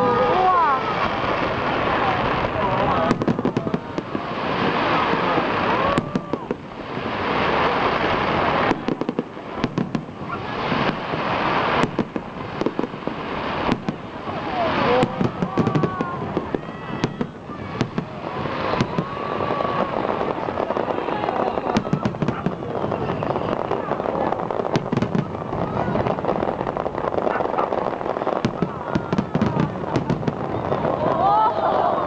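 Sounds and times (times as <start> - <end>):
crackling fireworks bursts: 0.0 - 32.0
fireworks bangs and cracks: 0.0 - 32.0.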